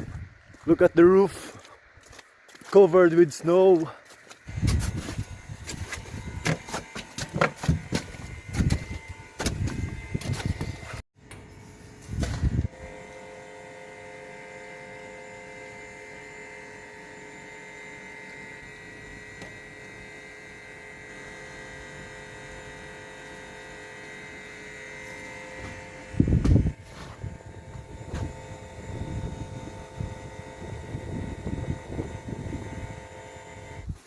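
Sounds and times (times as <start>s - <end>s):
electrical hum with pitched tones: 0.0s - 34.0s.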